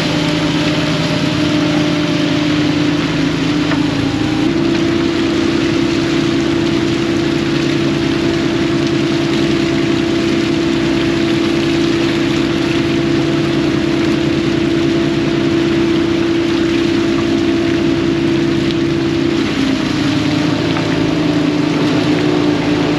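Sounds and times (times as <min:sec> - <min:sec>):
boat engine droning: 0:00.0 - 0:22.9
water wash noise: 0:00.0 - 0:22.9.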